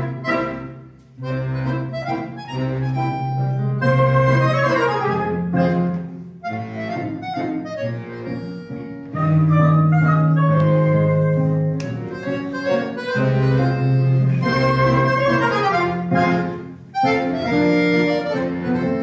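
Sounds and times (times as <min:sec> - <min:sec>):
accordion long low notes: 0:00.0 - 0:19.0
classical guitar: 0:00.0 - 0:19.0
woodwind melody: 0:00.0 - 0:19.0.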